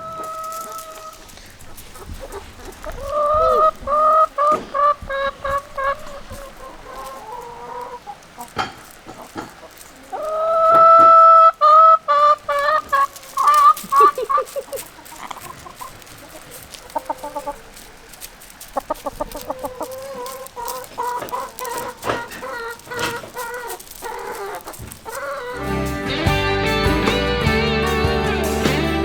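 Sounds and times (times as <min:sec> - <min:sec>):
chickens calling: 0:00.0 - 0:29.0
chickens clucking: 0:00.0 - 0:29.0.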